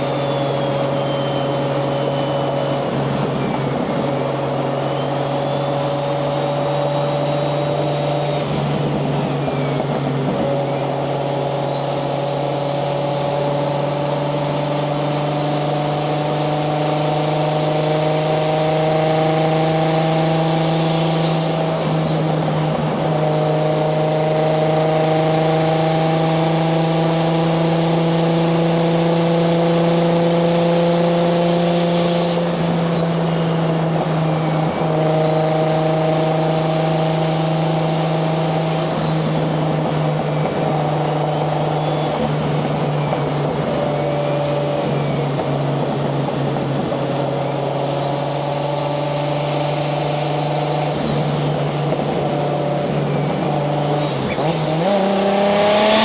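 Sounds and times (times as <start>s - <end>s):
car engine pulling: 0.0s - 56.0s
turbo whine: 0.0s - 56.0s.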